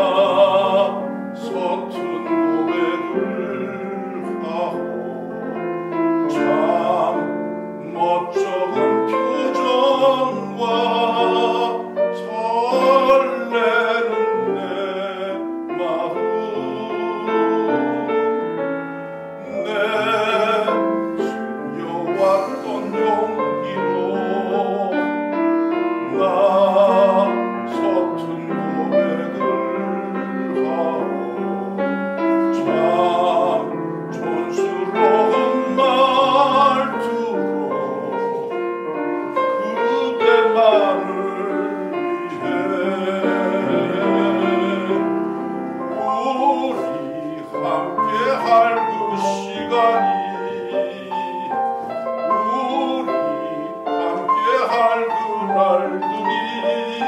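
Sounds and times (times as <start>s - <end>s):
grand piano: 0.0s - 57.0s
man singing operatically: 0.0s - 57.0s.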